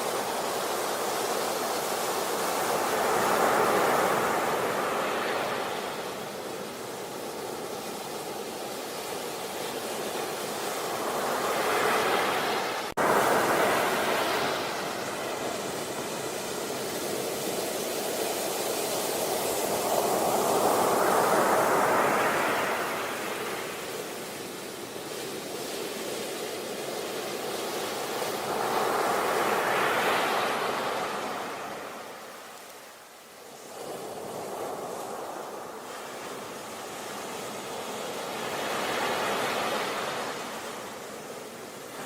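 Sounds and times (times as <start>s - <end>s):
sea waves breaking on a beach: 0.0s - 42.0s.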